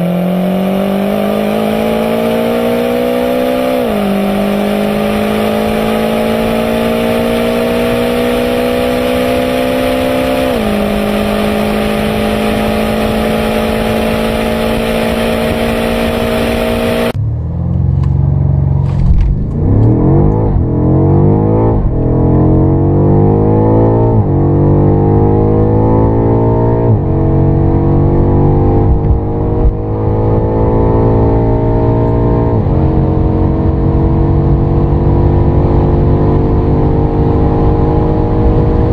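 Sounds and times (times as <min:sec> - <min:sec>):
car accelerating hard: 0:00.0 - 0:38.9
car engine revving through upshifts: 0:00.0 - 0:38.9.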